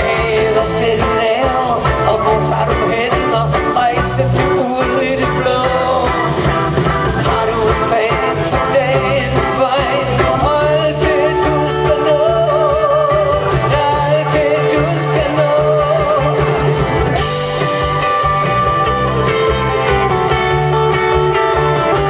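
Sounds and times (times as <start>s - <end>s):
lead vocal singing: 0.0s - 22.0s
live pop-rock band playing: 0.0s - 22.0s.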